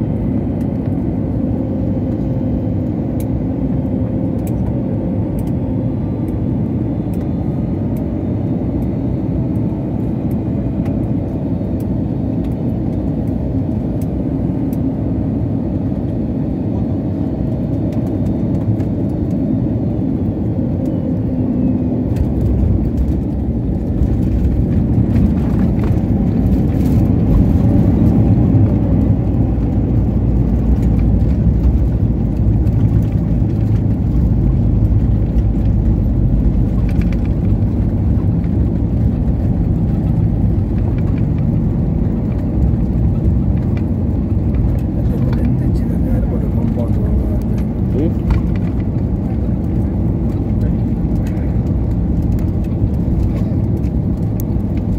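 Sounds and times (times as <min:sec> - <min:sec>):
jet engine and airflow rumble: 0:00.0 - 0:54.9.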